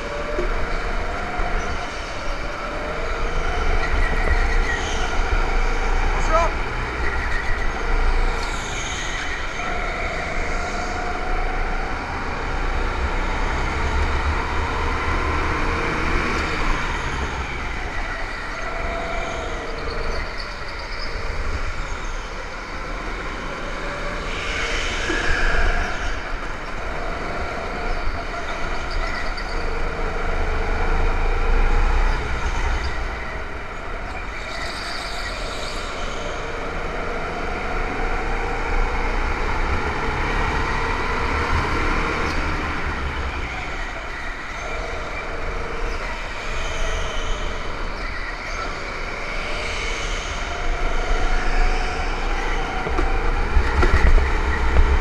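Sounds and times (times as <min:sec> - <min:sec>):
go-kart engines revving: 0:00.0 - 0:55.0.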